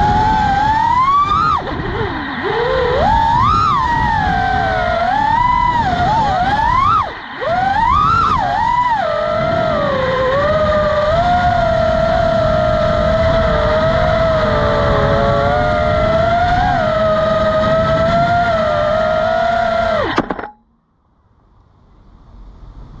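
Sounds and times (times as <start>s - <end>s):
wind rumbling on microphone: 0.0s - 20.2s, 21.2s - 23.0s
drone motors whining: 0.0s - 20.6s.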